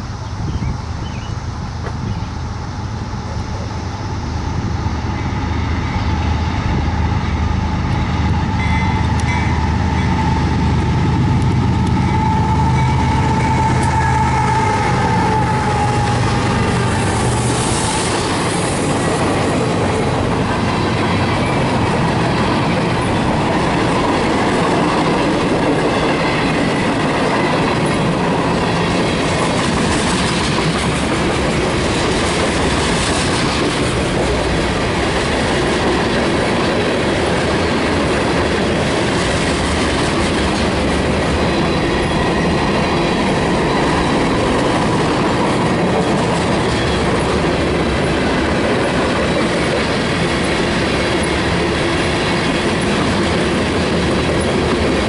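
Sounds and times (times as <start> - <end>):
diesel locomotive engines with whine: 0.0 - 55.0
train wheels clattering on rails: 5.0 - 55.0.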